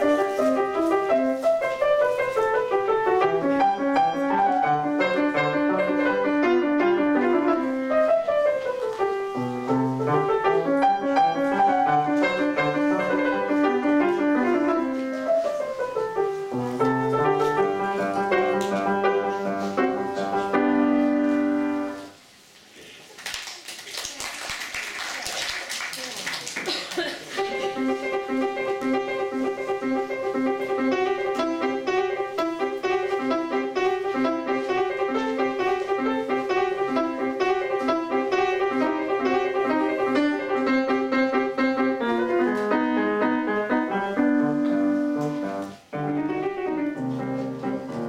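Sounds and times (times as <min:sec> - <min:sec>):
solo piano classical passage: 0:00.0 - 0:22.3, 0:27.4 - 0:48.0
faint noise: 0:00.0 - 0:48.0.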